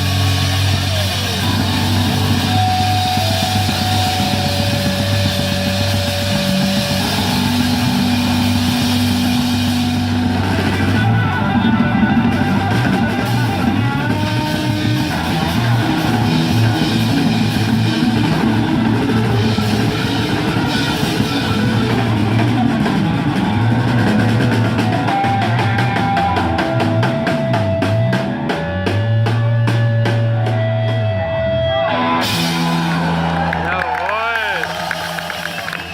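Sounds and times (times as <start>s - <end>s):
drum kit beat: 0.0s - 33.4s
rock and roll band playing: 0.0s - 35.9s.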